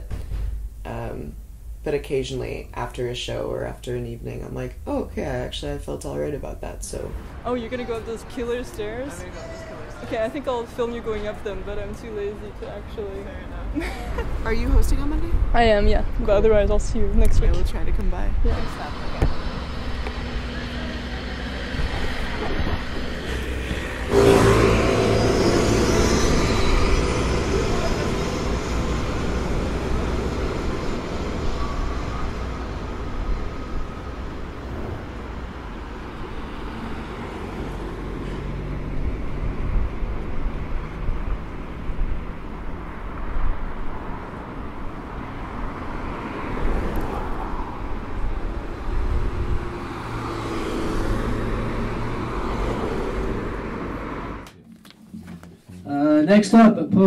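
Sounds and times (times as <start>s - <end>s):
city traffic hum: 0.0s - 55.8s
vehicle passing by: 6.4s - 54.5s.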